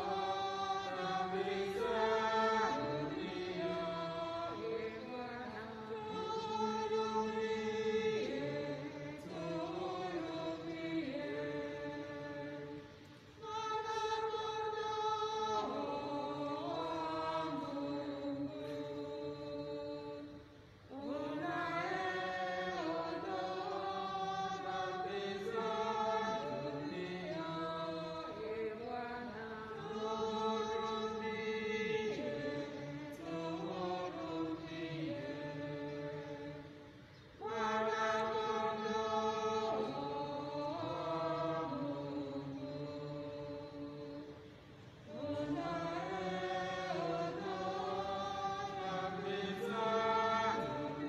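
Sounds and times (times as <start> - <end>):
choir singing a hymn: 0.0 - 51.0.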